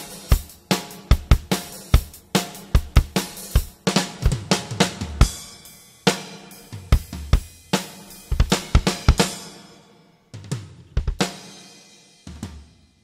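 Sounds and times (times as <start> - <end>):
snare tom and kick drums: 0.0 - 9.6, 10.4 - 12.8.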